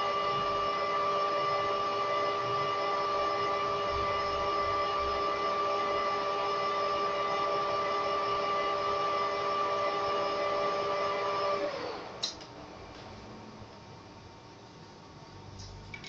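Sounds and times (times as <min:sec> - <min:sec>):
lathe motor whine: 0:00.0 - 0:13.7.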